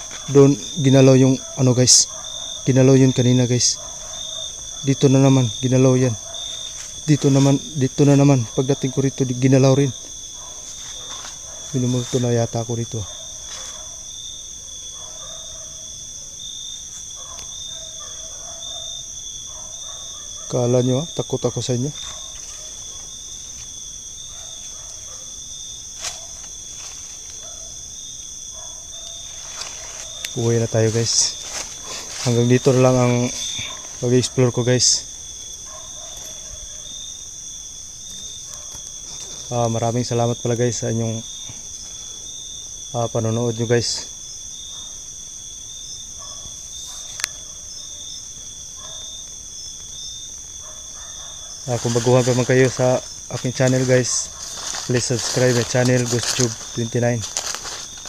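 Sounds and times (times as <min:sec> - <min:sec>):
crickets trilling: 0:00.0 - 0:58.0
night insects chirping: 0:00.0 - 0:58.0.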